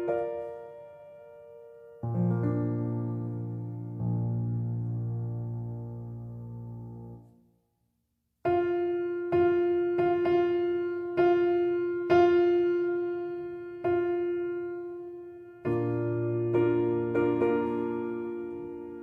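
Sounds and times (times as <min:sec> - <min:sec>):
solo piano music: 0:00.0 - 0:07.4, 0:08.4 - 0:19.0.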